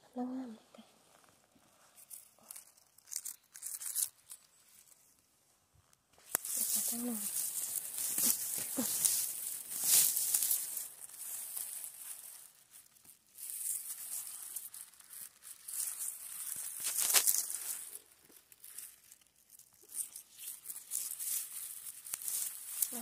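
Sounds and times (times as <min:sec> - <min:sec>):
dry moss and twigs crackling: 0:00.8 - 0:23.0.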